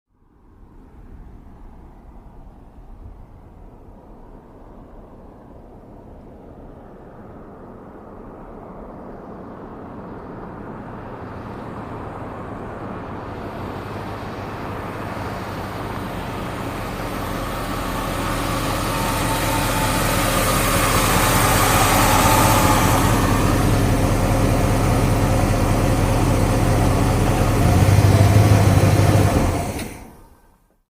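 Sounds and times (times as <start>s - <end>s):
road noise: 0.1s - 30.8s
car engine rumbling: 0.7s - 30.8s.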